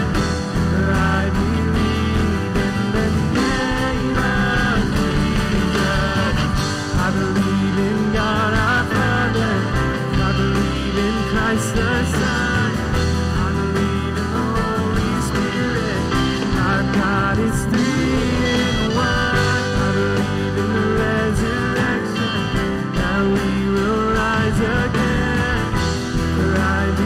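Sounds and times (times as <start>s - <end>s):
acoustic guitar: 0.0s - 27.0s
drums: 0.0s - 27.0s
electric guitar: 0.0s - 27.0s
woman singing lead: 0.0s - 27.0s.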